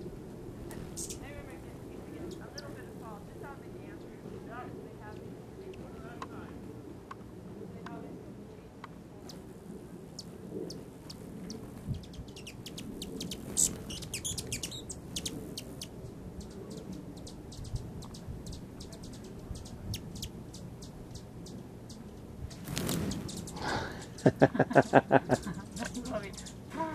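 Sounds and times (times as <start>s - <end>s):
hummingbird chittering: 0.0s - 6.7s, 9.2s - 26.9s
low steady murmur: 0.0s - 26.9s
hummingbird chip calls: 0.7s - 6.6s, 10.1s - 26.9s.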